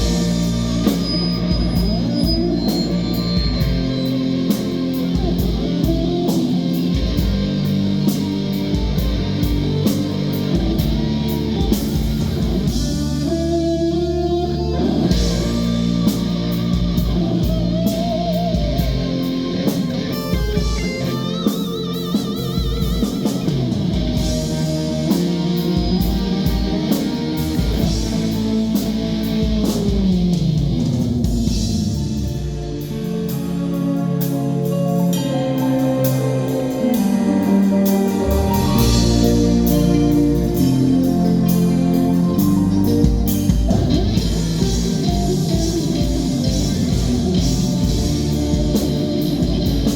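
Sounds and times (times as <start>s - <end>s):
bass guitar: 0.0s - 49.9s
drum kit: 0.0s - 49.9s
electric guitar with bent notes: 0.0s - 49.9s.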